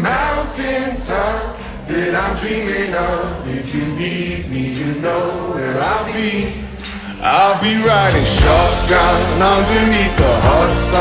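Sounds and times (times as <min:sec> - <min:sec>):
voices singing pop song: 0:00.0 - 0:11.0.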